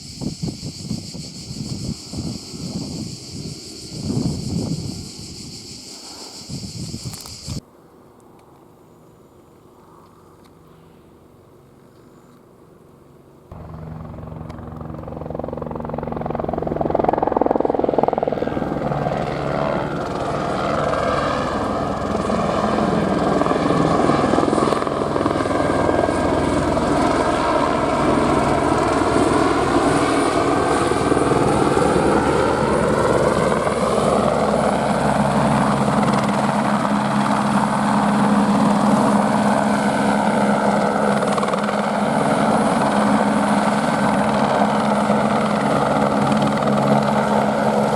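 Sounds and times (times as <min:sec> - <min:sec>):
helicopter rotor and turbine: 0:00.0 - 0:07.6, 0:13.5 - 0:47.9.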